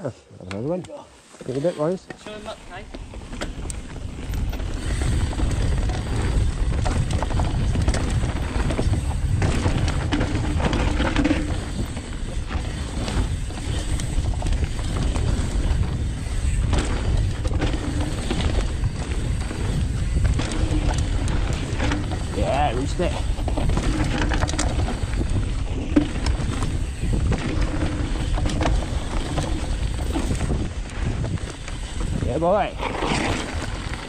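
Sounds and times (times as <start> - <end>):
bike clattering over rough ground: 0.8 - 34.0
wind buffeting: 2.4 - 34.0
tyre roar on dirt: 2.9 - 34.0.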